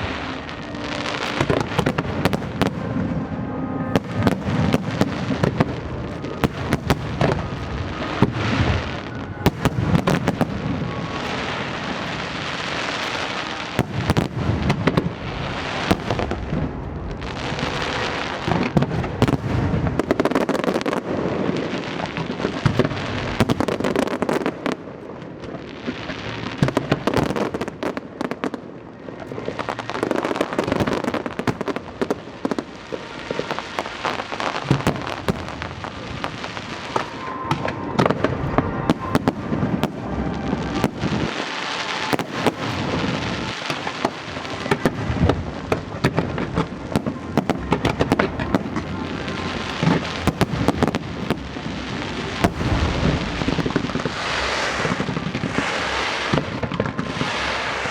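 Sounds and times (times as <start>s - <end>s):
fireworks bangs: 0.0s - 57.9s
fireworks crackle and hiss: 0.0s - 57.9s.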